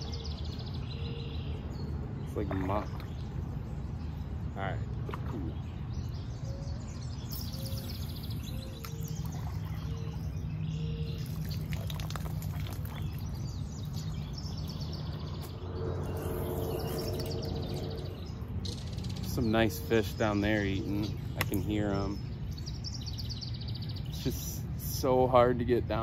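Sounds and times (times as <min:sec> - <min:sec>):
birds chirping and singing: 0:00.0 - 0:26.0
low background rumble: 0:02.0 - 0:24.1.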